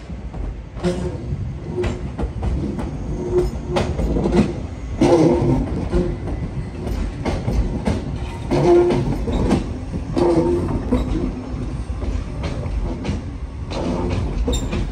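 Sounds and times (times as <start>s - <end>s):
train wheels clicking over joints: 0.0s - 14.9s.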